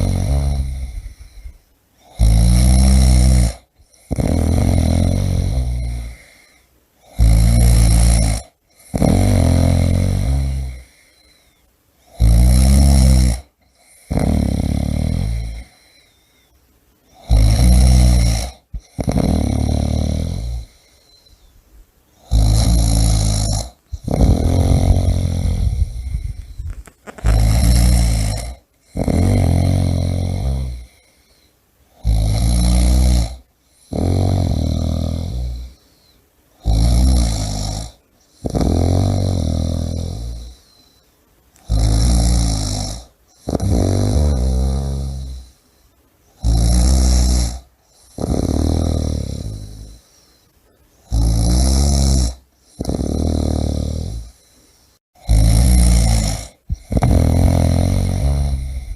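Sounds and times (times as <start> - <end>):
person snoring loudly: 0.0 - 11.4, 12.1 - 16.0, 17.1 - 21.2, 22.2 - 31.2, 31.9 - 35.8, 36.6 - 40.8, 41.6 - 45.6, 46.4 - 50.1, 51.0 - 54.5, 55.2 - 58.9.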